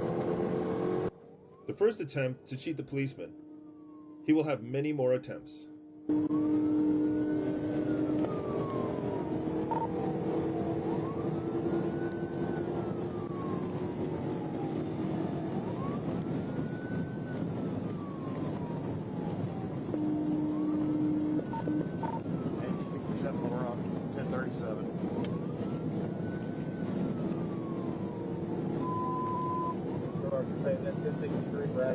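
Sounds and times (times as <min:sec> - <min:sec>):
police siren wailing: 0:00.0 - 0:31.9
road and engine noise: 0:00.0 - 0:31.9.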